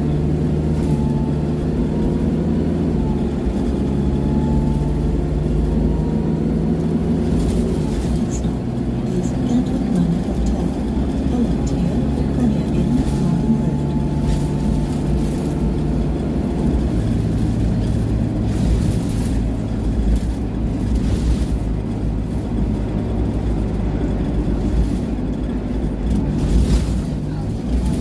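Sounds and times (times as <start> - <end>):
bus diesel engine drone: 0.0 - 28.0
road rumble: 0.0 - 28.0.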